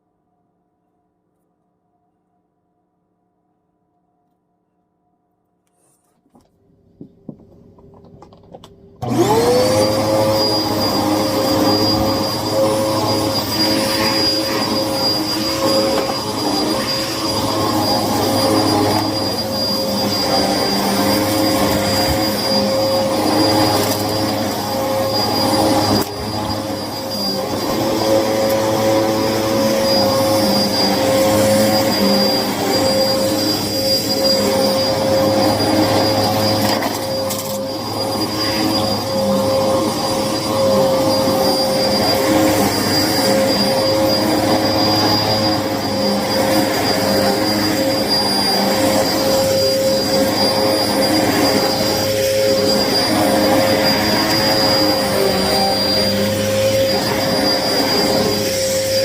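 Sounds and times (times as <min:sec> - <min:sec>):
vacuum cleaner motor whine: 0:08.6 - 0:59.0.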